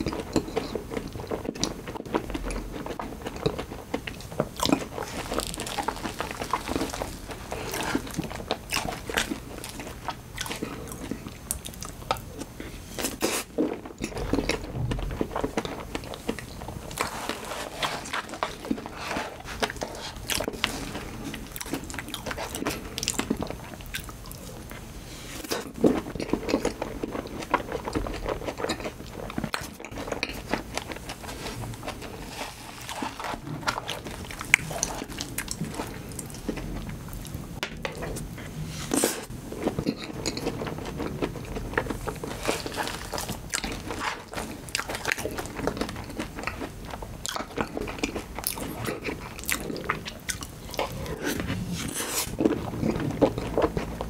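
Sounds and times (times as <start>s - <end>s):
chewing and mouth sounds: 0.0s - 54.0s.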